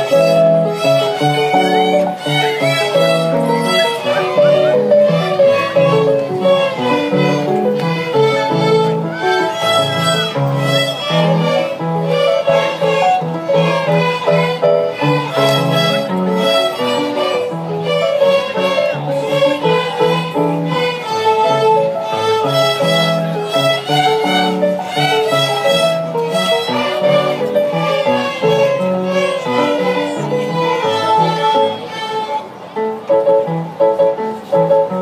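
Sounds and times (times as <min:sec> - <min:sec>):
violins playing in unison: 0:00.0 - 0:35.0.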